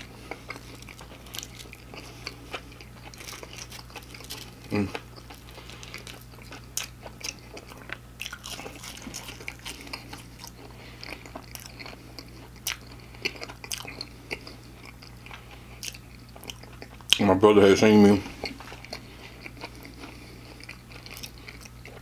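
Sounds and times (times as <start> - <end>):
chewing crispy fried food: 0.0 - 22.0
faint low hum: 0.0 - 22.0.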